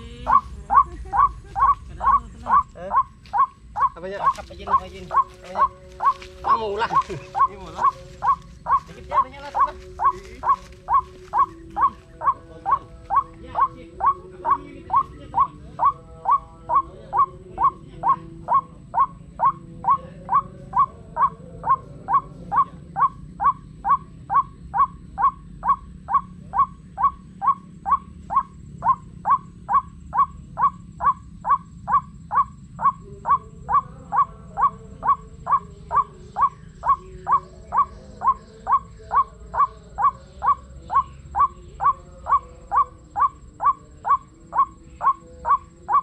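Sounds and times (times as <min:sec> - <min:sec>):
bird calls from speaker: 0:00.0 - 0:46.0.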